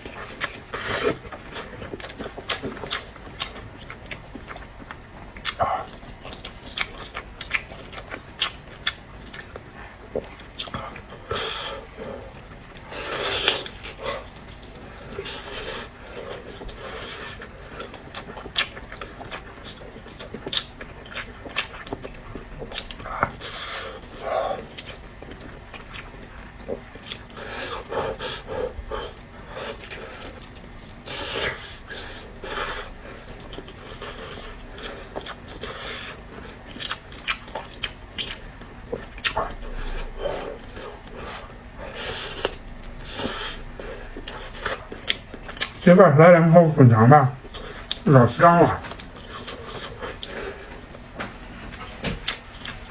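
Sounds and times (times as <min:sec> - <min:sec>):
wet chewing: 0:00.0 - 0:46.0, 0:47.4 - 0:52.9.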